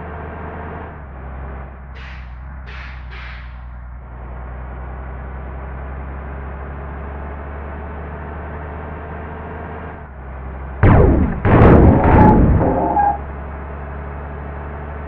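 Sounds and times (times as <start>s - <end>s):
large engine droning: 0.0s - 15.0s.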